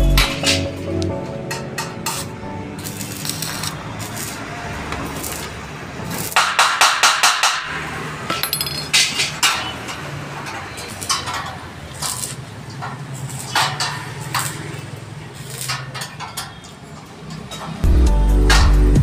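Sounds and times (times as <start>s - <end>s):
welding arc crackling: 1.5s - 8.2s, 8.9s - 17.5s.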